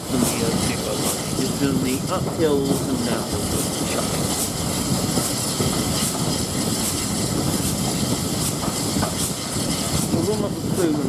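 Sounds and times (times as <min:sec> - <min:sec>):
train wheel and air noise: 0:00.0 - 0:11.0.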